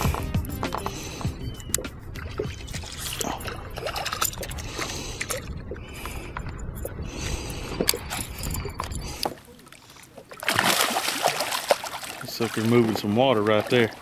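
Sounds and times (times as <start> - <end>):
wind: 0.0 - 14.0
water lapping on boat: 0.8 - 14.0.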